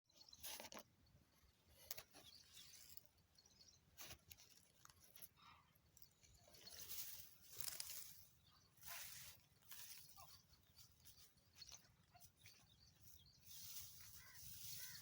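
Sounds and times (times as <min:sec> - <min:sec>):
faint rustling and crackling: 0:00.2 - 0:15.0.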